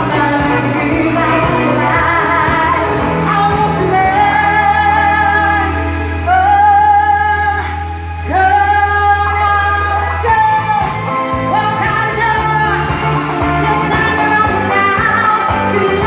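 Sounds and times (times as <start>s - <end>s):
person singing long notes: 0.0s - 16.0s
steady bass line: 0.0s - 16.0s.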